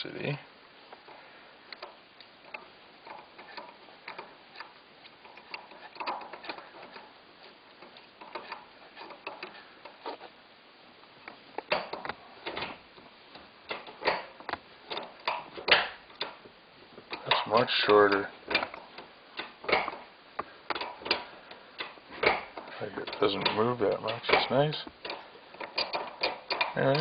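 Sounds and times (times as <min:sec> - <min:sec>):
gear lever clicks and clunks: 0:01.7 - 0:10.2, 0:11.2 - 0:20.1, 0:20.7 - 0:27.0.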